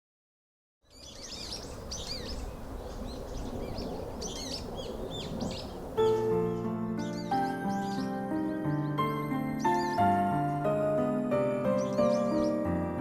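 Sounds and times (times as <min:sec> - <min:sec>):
outdoor background hiss: 0:00.8 - 0:13.0
songbirds chirping: 0:00.8 - 0:13.0.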